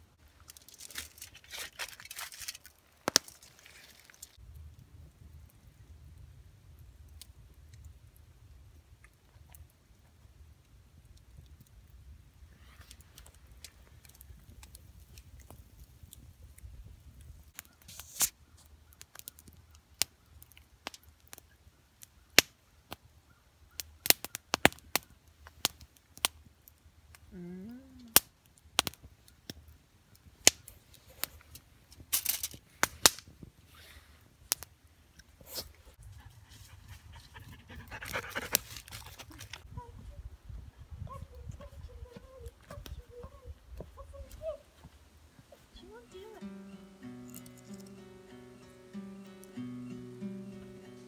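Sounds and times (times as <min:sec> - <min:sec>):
campfire crackling and popping: 0:00.0 - 0:39.7, 0:41.1 - 0:51.0.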